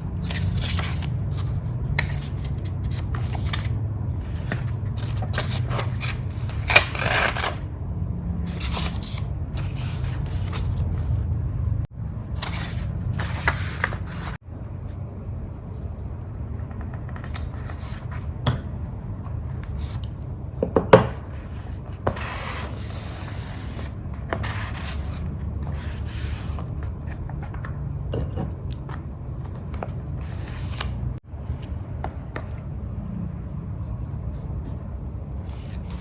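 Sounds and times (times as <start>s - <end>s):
low background hum: 0.0s - 36.0s.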